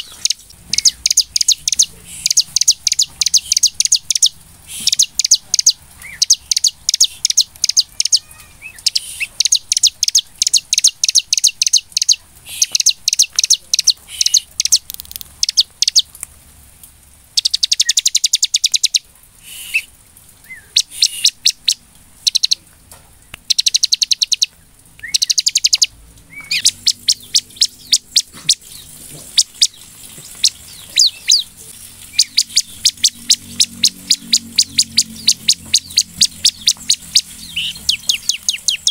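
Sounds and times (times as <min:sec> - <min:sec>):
bird song with chips and trills: 0:00.0 - 0:16.1, 0:17.4 - 0:19.0, 0:20.4 - 0:22.6, 0:23.2 - 0:38.9.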